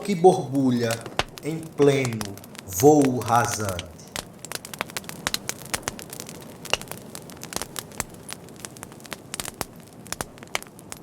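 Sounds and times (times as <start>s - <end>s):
bonfire crackling and popping: 0.0s - 11.0s
soft fire hiss: 0.0s - 11.0s.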